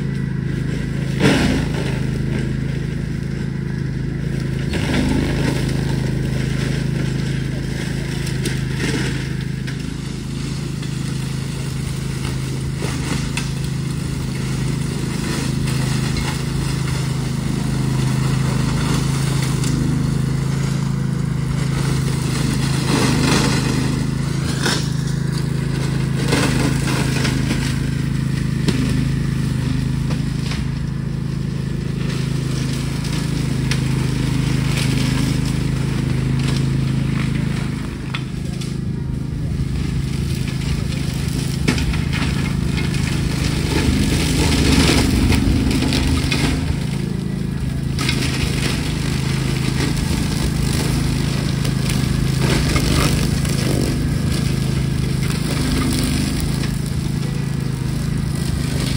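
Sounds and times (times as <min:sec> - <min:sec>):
mower engine running: 0:00.0 - 0:58.9
brush crackling and snapping: 0:03.3 - 0:58.9.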